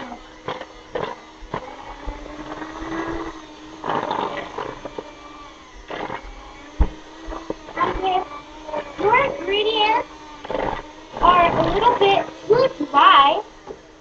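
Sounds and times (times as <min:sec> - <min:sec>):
electric hand mixer humming: 0:00.0 - 0:14.0.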